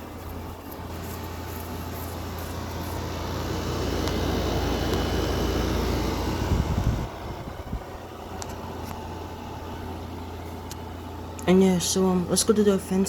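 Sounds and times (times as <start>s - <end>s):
air conditioner compressor hum: 0.0s - 13.0s.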